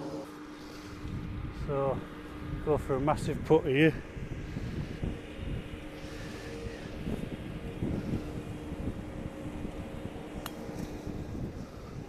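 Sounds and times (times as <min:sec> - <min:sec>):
low steady hum: 0:00.0 - 0:12.0
wind buffeting microphone: 0:00.7 - 0:12.0.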